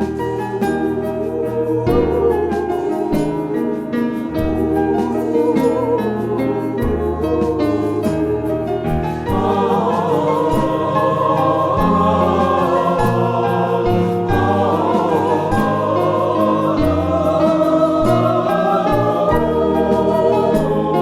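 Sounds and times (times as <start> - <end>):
choir singing in harmony: 0.0 - 21.0
instrumental accompaniment: 0.0 - 21.0.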